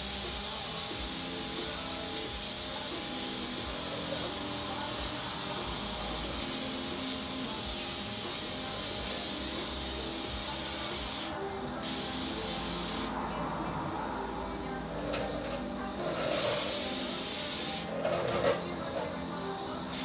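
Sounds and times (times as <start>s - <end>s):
spray gun hissing: 0.0s - 20.0s.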